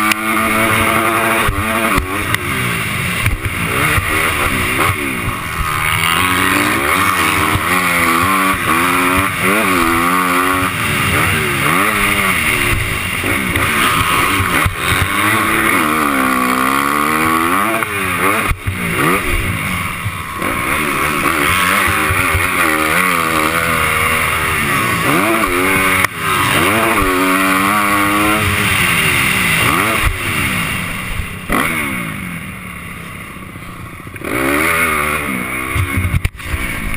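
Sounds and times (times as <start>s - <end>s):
motocross bike engine revving: 0.0s - 36.9s.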